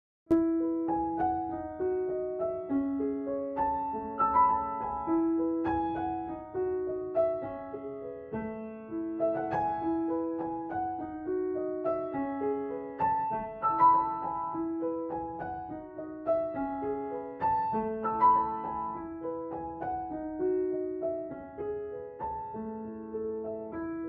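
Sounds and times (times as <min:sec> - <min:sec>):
piano playing notes and chords: 0:00.3 - 0:24.0.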